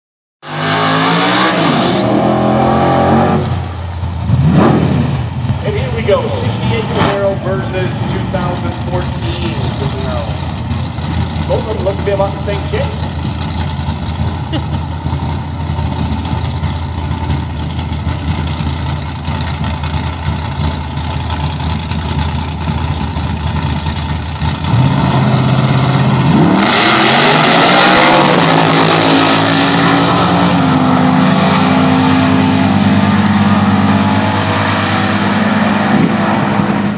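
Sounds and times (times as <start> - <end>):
drag car engines: 0.4 - 36.9.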